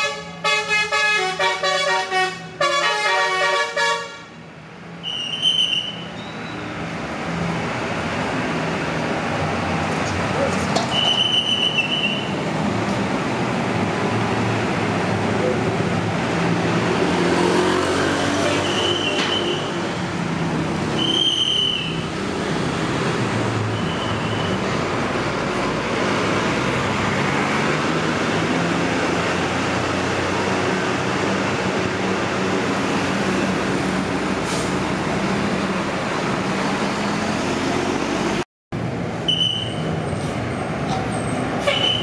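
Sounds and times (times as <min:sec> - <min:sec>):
diesel bus engines rumbling: 0:00.0 - 0:42.0.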